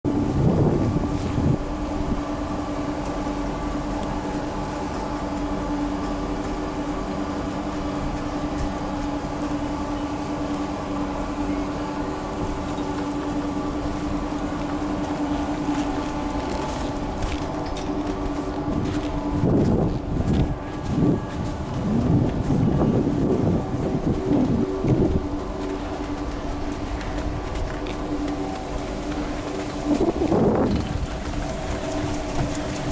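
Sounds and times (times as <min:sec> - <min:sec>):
chairlift machinery humming: 0:00.1 - 0:32.9
low rumble: 0:00.1 - 0:32.9.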